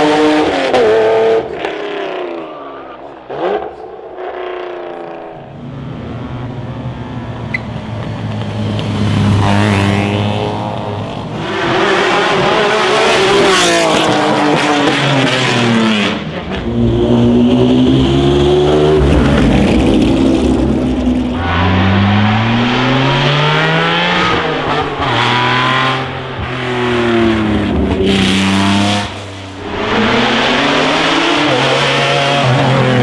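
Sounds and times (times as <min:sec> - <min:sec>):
racing car engine accelerating: 0:05.5 - 0:33.0.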